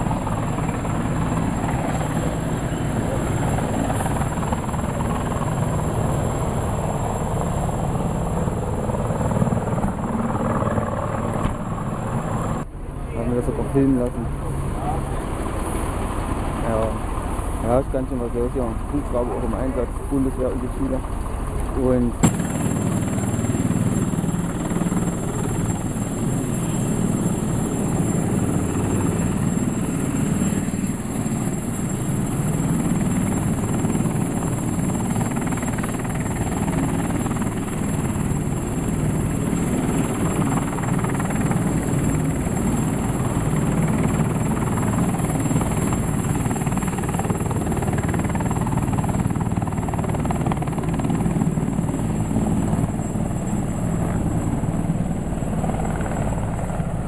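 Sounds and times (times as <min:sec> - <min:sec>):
helicopter rotor beating: 0:00.0 - 0:57.0.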